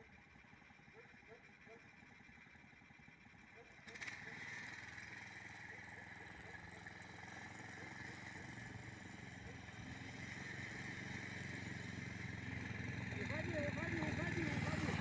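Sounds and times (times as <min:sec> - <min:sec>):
tracked vehicle engine on snow: 0:00.0 - 0:15.0.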